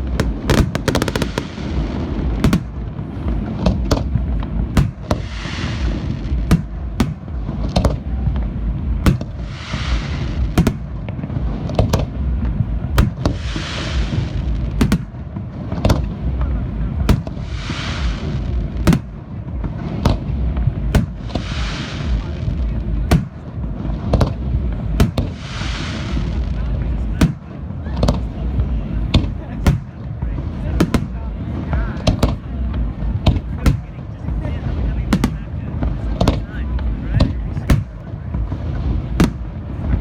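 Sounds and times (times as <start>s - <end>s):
firework bangs: 0.0s - 40.0s
low rumble: 0.0s - 40.0s
rushing hiss of fireworks: 0.0s - 40.0s.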